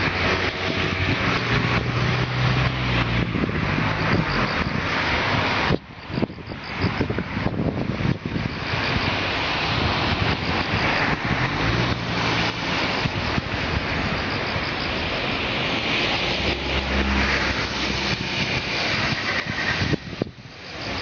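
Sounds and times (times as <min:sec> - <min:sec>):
vehicles passing on bridge: 0:00.0 - 0:21.0.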